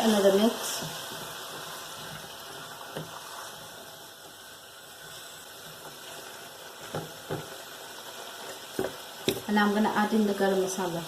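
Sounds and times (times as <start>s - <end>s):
curry sizzling and bubbling in oil: 0.0s - 11.0s.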